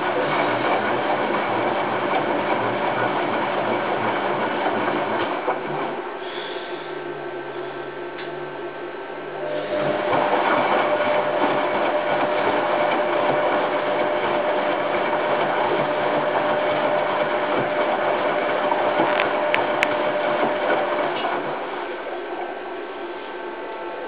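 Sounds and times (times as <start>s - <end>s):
washing machine running: 0.0s - 24.0s
washing machine whine: 0.0s - 24.0s.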